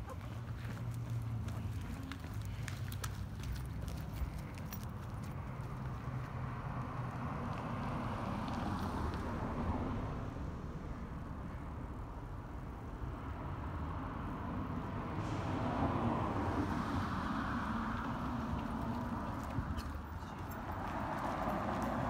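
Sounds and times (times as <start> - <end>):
cars passing on street: 0.0 - 22.0.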